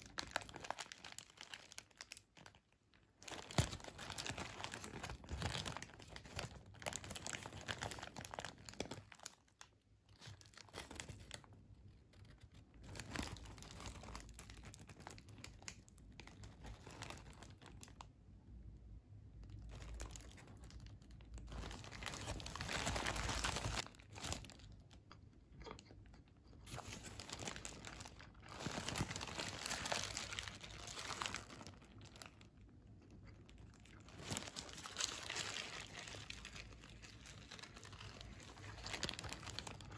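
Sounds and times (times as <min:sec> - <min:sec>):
paper wrapper crinkling: 0:00.0 - 0:18.1, 0:19.6 - 0:24.9, 0:26.7 - 0:32.5, 0:33.5 - 0:39.9.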